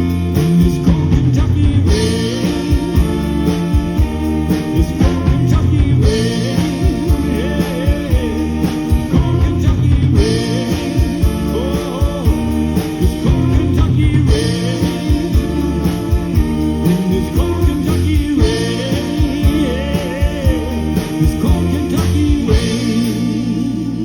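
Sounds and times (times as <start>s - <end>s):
drum beat: 0.0s - 23.2s
band playing a ballad: 0.0s - 24.0s
person singing: 0.0s - 24.0s.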